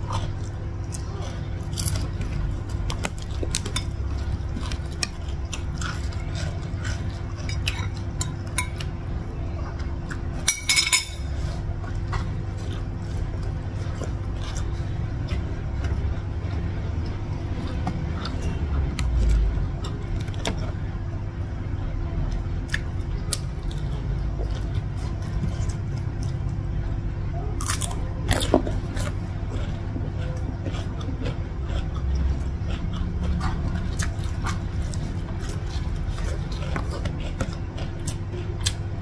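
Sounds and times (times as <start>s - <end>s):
chewing and mouth clicks: 0.0s - 9.0s, 11.8s - 20.8s, 22.3s - 27.0s, 27.6s - 39.0s
low background hum: 0.0s - 39.0s.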